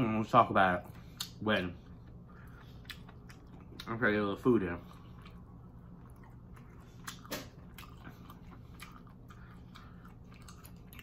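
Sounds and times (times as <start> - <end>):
person chewing food: 0.8 - 4.0, 4.8 - 11.0.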